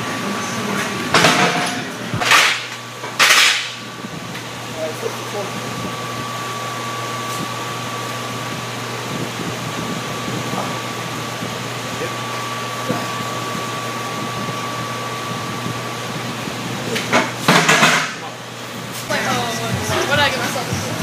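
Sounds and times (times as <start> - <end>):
fan rushing air: 0.0 - 21.0
thin steady whine: 0.0 - 21.0.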